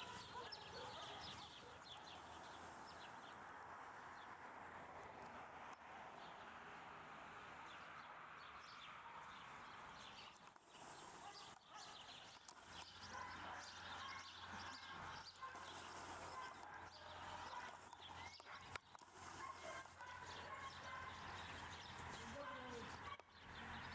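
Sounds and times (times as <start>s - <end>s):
steady outdoor hiss: 0.0s - 23.9s.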